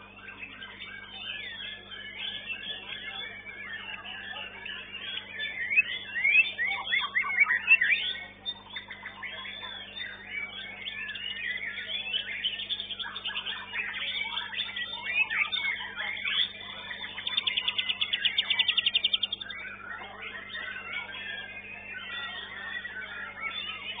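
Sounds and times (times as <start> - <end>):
other songbirds singing: 0.0 - 24.0
songbird whistling song: 0.0 - 24.0.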